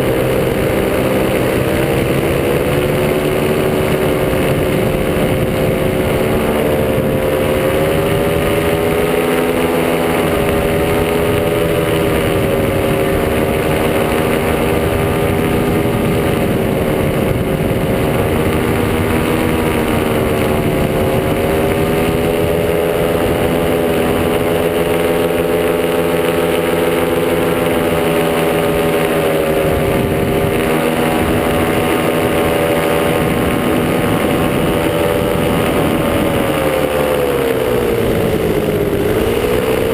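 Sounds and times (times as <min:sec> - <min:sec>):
two-stroke engine running: 0:00.0 - 0:39.9.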